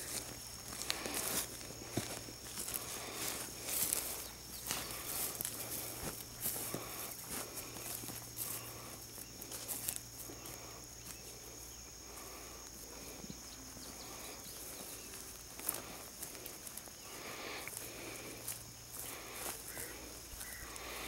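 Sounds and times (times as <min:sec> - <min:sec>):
footsteps swishing through grass: 0:00.0 - 0:11.6, 0:14.6 - 0:21.0
high-pitched insect drone: 0:00.0 - 0:21.0.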